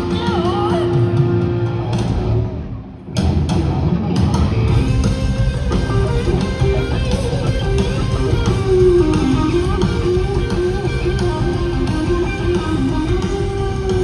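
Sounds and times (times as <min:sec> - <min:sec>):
drums: 0:00.0 - 0:14.0
electric guitar: 0:00.0 - 0:14.0.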